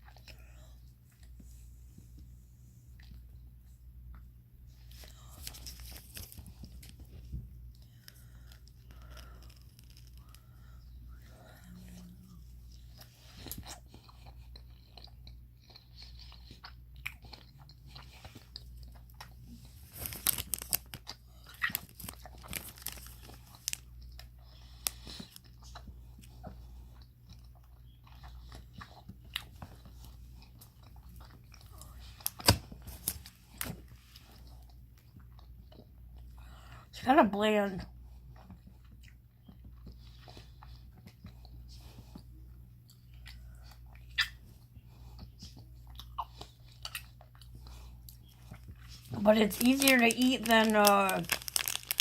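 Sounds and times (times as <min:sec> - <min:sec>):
person chewing: 0:00.0 - 0:36.8, 0:37.9 - 0:52.0
faint low hum: 0:00.0 - 0:52.0.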